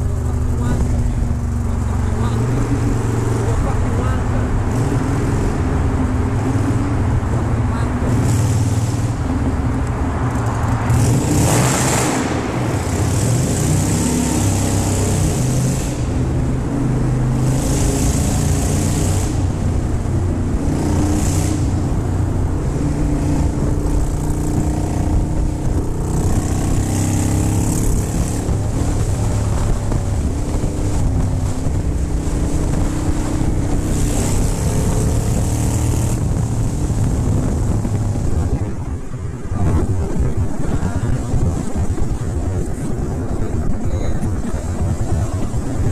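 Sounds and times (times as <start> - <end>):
motorcycle engine running: 0.0 - 38.8.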